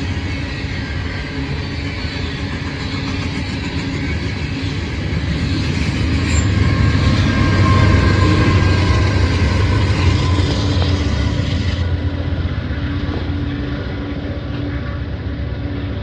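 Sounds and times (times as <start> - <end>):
diesel locomotive engines rumbling: 0.0 - 16.0
train cars rolling on rails: 0.0 - 16.0.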